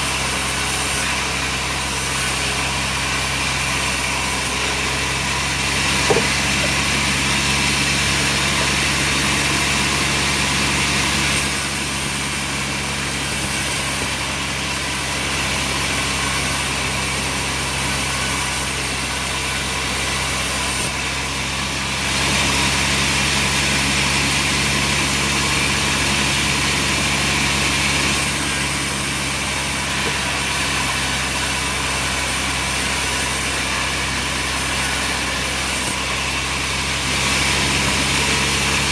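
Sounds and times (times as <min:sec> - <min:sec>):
sawmill motor drone: 0:00.0 - 0:38.9.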